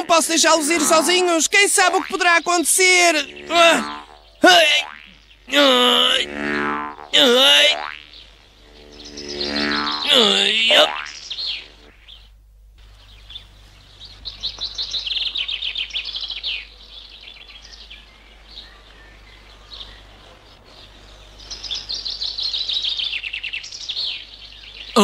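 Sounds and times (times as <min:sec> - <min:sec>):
birds trilled chirping: 0:00.0 - 0:07.2, 0:07.8 - 0:25.0
steady low hum: 0:00.0 - 0:23.1.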